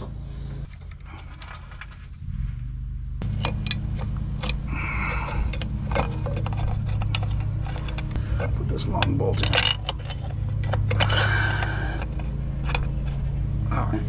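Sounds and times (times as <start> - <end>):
metal scrape: 0.0 - 14.0
steady low hum: 0.0 - 14.0
metal tools clinking and rattling: 0.6 - 2.2, 3.2 - 14.0.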